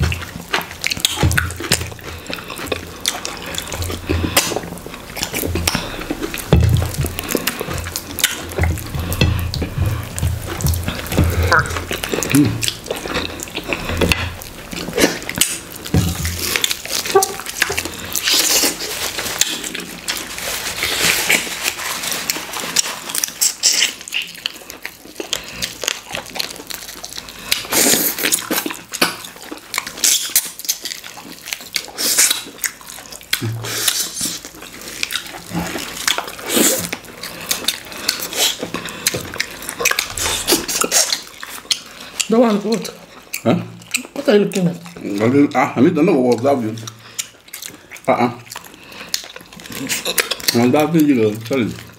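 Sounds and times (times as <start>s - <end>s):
wet chewing and lip-smacking: 0.0s - 51.9s.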